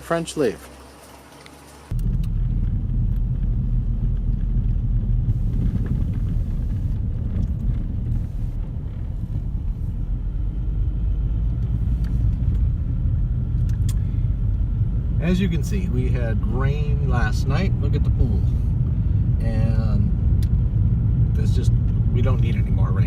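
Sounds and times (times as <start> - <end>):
loud low rumble: 1.9 - 23.0.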